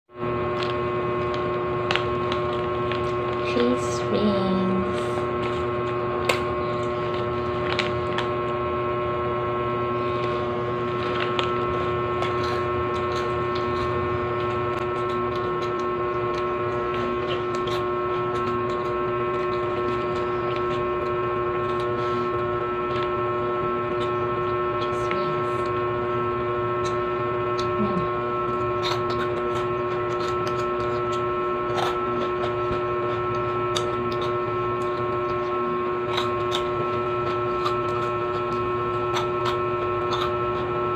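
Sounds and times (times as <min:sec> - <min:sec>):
hum of held tones: 0:00.1 - 0:40.9
snacks being crunched: 0:00.4 - 0:03.4, 0:05.0 - 0:08.7, 0:10.0 - 0:40.9.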